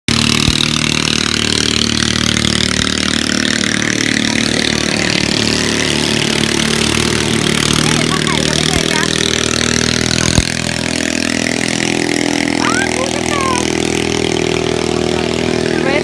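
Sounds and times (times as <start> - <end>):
boat engine droning: 0.1 - 16.0.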